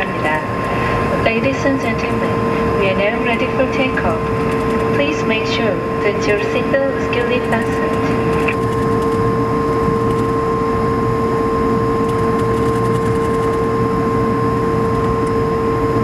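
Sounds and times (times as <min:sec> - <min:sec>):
engine rumble: 0:00.0 - 0:12.9
jet engine whine: 0:00.0 - 0:16.0.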